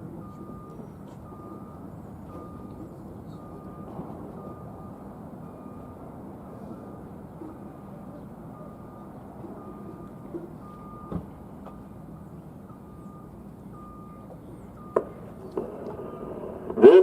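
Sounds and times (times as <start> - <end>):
reversing alarm beeping: 0.2 - 17.0.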